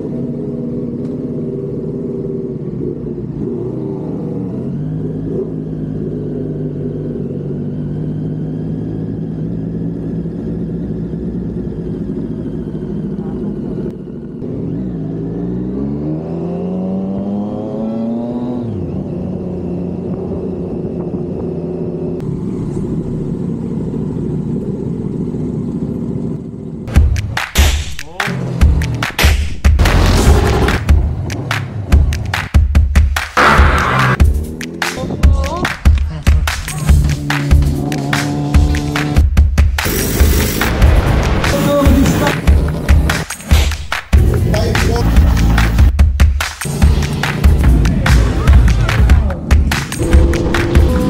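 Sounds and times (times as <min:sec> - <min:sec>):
motorcycle engine accelerating: 0:00.0 - 0:27.4, 0:28.1 - 0:51.0.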